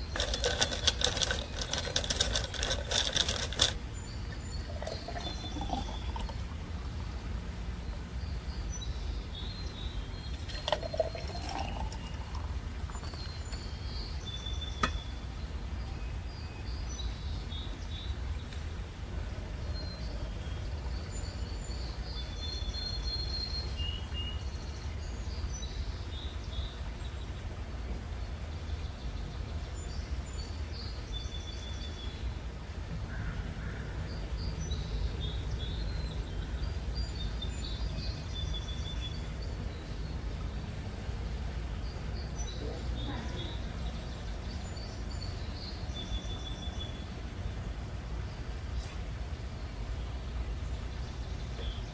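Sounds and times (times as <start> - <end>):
small birds chirping: 0.0 - 18.8, 19.6 - 27.6, 33.1 - 51.9.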